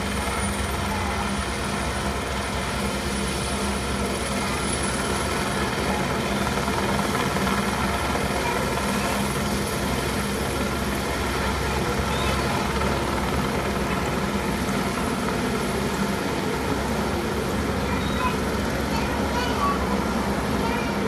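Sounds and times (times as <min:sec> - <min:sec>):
helicopter engine and rotor running: 0:00.0 - 0:21.0.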